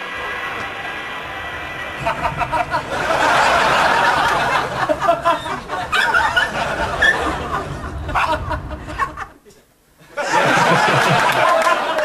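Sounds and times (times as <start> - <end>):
group of people laughing: 1.9 - 12.0.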